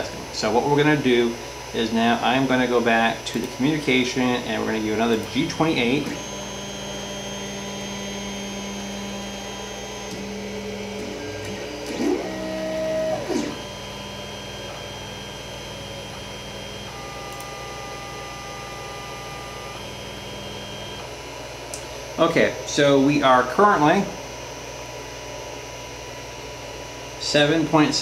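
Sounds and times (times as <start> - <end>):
stepper motors whining: 0.0 - 23.3.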